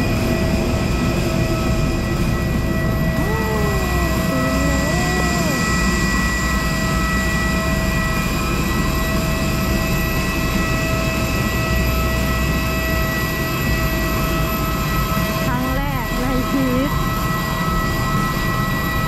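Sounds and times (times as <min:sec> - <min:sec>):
jet engine whine: 0:00.0 - 0:19.0.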